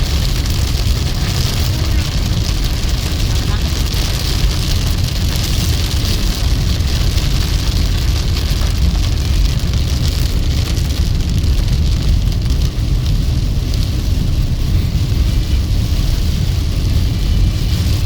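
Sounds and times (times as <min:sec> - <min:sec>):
engine and tyre rumble: 0:00.0 - 0:18.0
rain hissing and pattering: 0:00.0 - 0:18.0.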